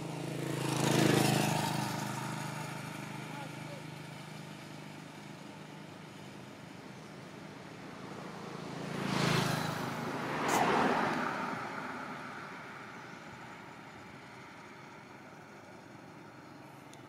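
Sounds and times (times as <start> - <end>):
car passing and moving away: 0.0 - 4.1, 6.1 - 17.0
road vehicle passing by: 0.0 - 17.0.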